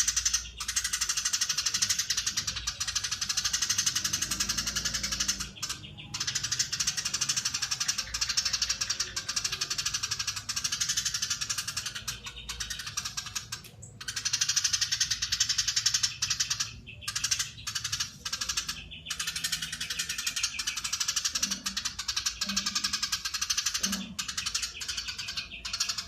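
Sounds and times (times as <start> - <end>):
sparrow chattering: 0.0 - 26.0.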